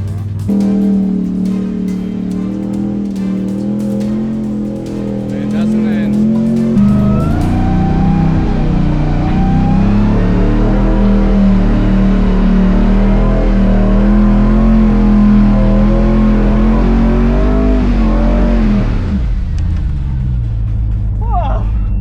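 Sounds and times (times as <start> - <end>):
truck engine revving hard: 0.0 - 21.2.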